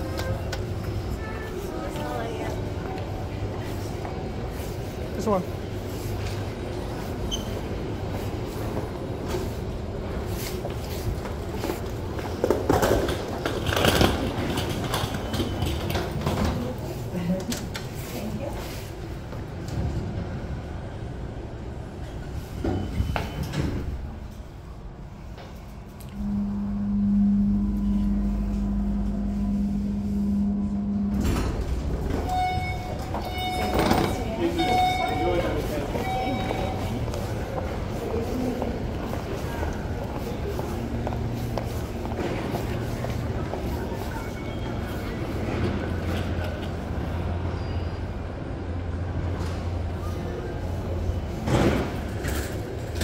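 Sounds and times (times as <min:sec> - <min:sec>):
monorail car rumbling: 0:00.0 - 0:53.0.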